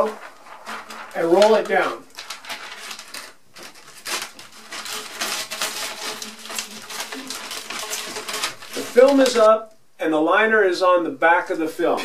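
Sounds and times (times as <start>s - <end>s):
plastic film crinkling: 0.0s - 9.7s.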